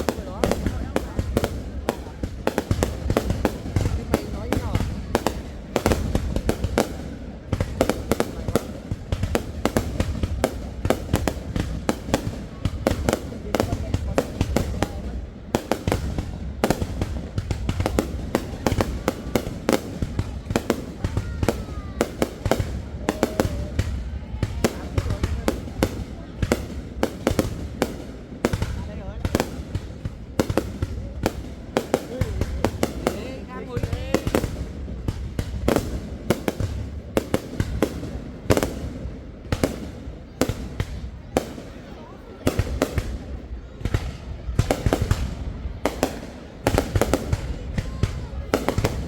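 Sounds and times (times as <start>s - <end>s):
fireworks cracks and bangs: 0.0s - 49.0s.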